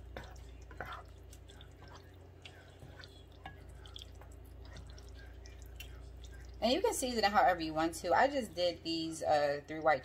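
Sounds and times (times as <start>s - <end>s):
wet squelches of stirred pasta: 0.0s - 8.5s
low steady hum: 0.0s - 10.0s.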